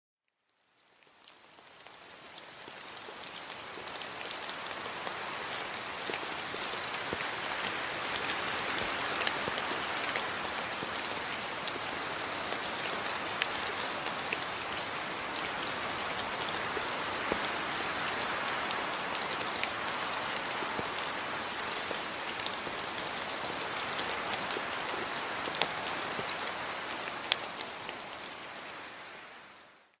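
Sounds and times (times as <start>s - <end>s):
steady rain hiss: 0.4s - 30.0s.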